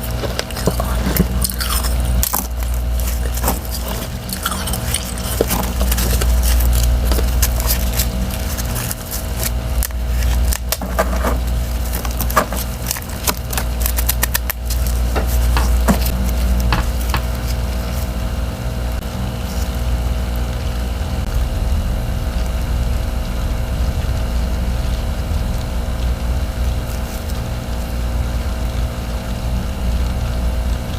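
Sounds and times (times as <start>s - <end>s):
frost and ice crunching: 0.0s - 30.9s
steady low hum: 0.0s - 30.9s.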